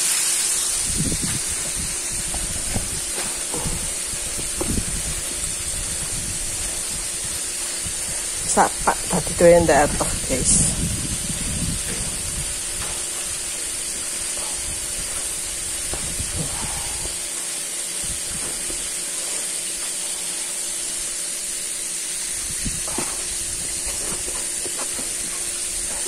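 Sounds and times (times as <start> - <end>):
oil sizzling in a pan: 0.0 - 26.0.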